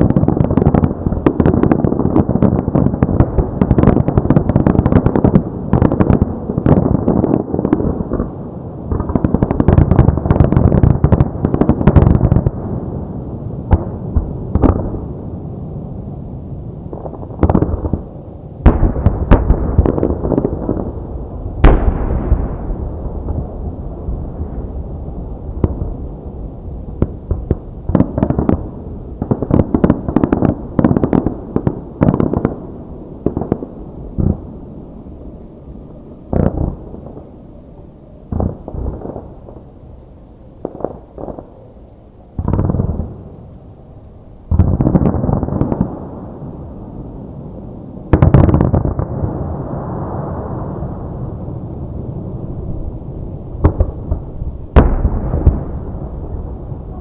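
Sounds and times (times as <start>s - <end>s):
fireworks bursting with echo: 0.0s - 57.0s.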